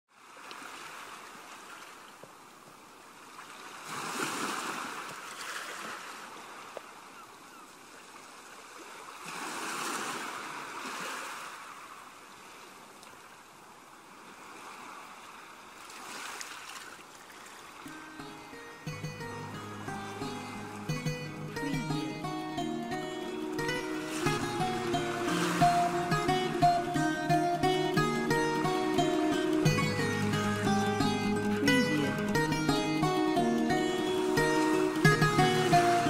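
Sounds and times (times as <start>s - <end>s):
sea waves washing in: 3.2s - 6.7s, 8.4s - 36.0s.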